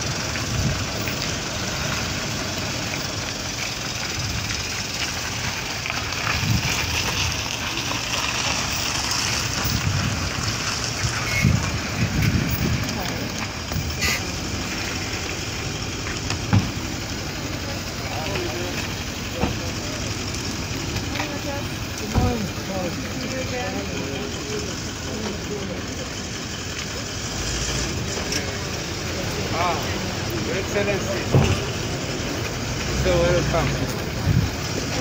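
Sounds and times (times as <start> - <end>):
suvs running at low speed: 0.0 - 35.0
indistinct voices: 6.1 - 35.0.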